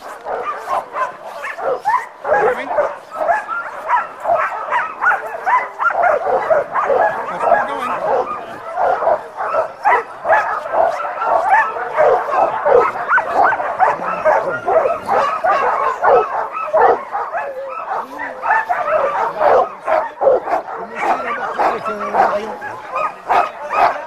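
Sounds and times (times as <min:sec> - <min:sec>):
dogs barking and yipping: 0:00.0 - 0:24.0.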